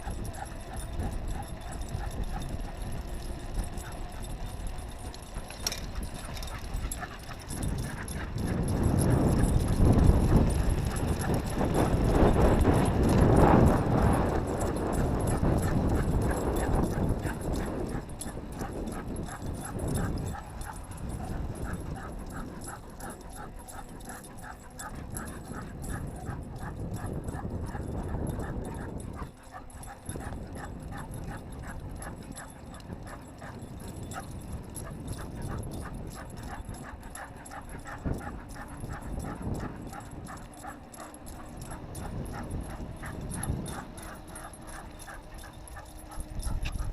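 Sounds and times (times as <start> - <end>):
dogs running: 0.0 - 46.9.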